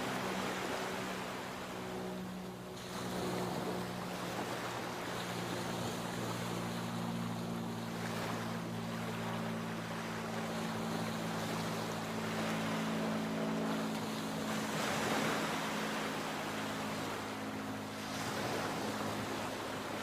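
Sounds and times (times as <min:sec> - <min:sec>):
low hum: 0:00.0 - 0:20.0
sea waves washing: 0:00.0 - 0:20.0.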